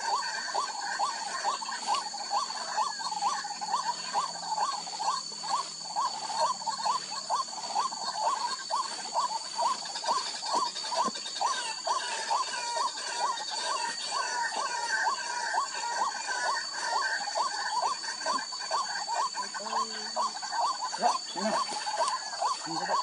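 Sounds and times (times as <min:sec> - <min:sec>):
bird calling repeated notes: 0:00.0 - 0:23.0.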